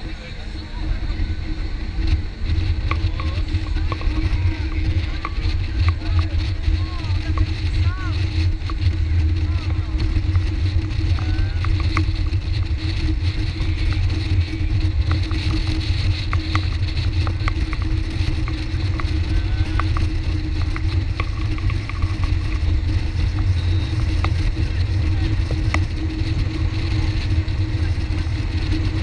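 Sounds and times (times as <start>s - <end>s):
motorboat engine drone: 0.0s - 29.0s.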